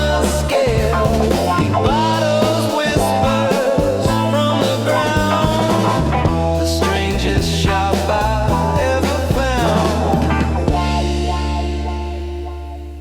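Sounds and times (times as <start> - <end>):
held bass notes: 0.0 - 13.0
psychedelic rock lead line: 0.0 - 13.0.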